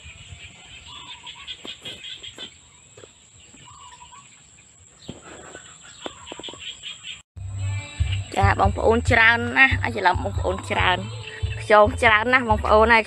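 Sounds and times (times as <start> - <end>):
high chirping: 0.0 - 13.0.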